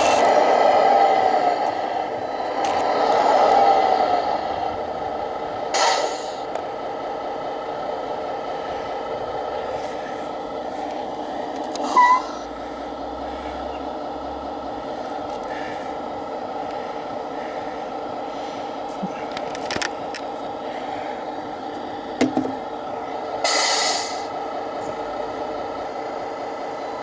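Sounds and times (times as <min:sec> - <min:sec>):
model truck motor hum: 0:00.0 - 0:27.0.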